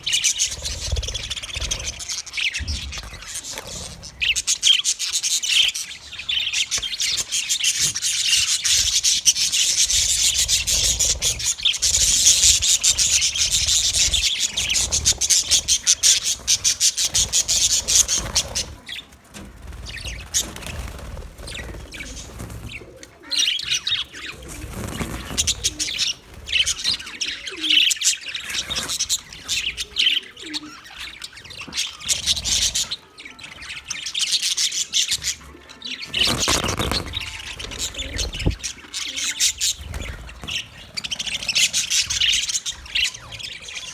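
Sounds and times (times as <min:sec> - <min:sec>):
budgerigars chattering and chirping: 0:00.0 - 0:43.9.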